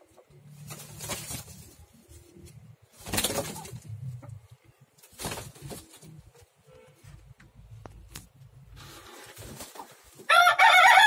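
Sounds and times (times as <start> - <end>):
wings flapping and scuffling: 0.0 - 7.3, 7.9 - 10.4.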